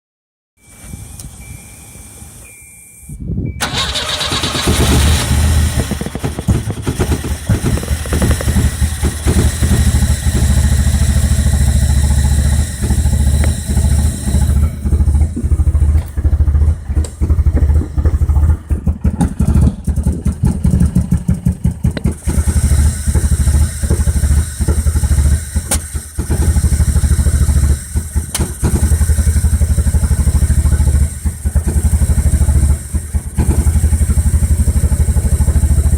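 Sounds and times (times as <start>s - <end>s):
car engine idling roughly: 3.6s - 35.9s.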